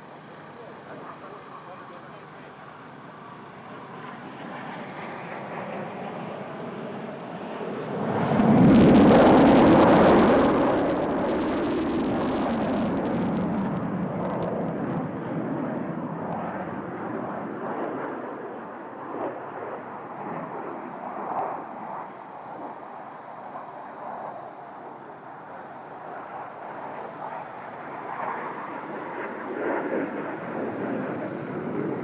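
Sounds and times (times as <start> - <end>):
jet fighter engine roar: 0.0 - 32.0.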